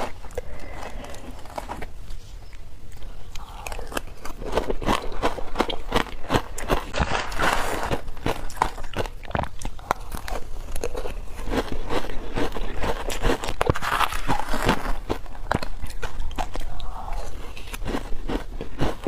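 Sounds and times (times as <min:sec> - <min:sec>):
teeth crunching frozen ice: 0:00.0 - 0:19.0.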